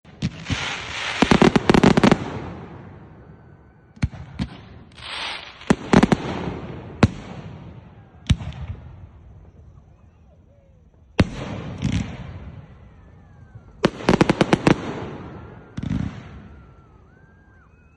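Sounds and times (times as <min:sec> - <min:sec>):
fireworks bangs: 0:00.0 - 0:17.9
fireworks crackling: 0:00.0 - 0:17.9.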